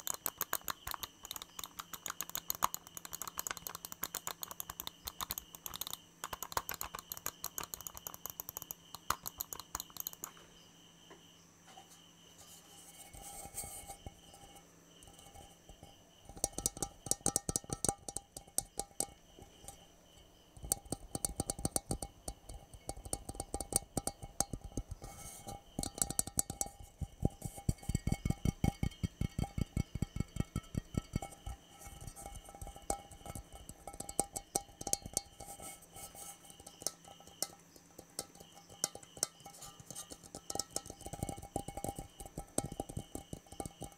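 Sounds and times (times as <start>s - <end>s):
fast aggressive tapping: 0.0s - 10.4s, 15.0s - 19.7s, 20.6s - 25.1s, 25.8s - 35.6s, 36.4s - 43.9s.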